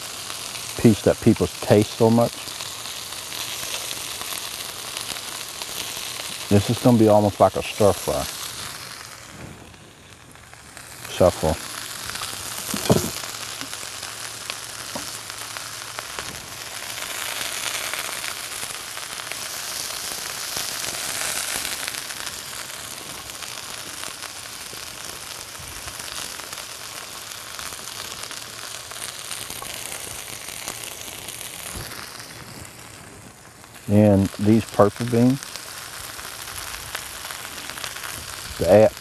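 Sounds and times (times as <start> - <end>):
vegetables sizzling in a skillet: 0.0 - 39.0.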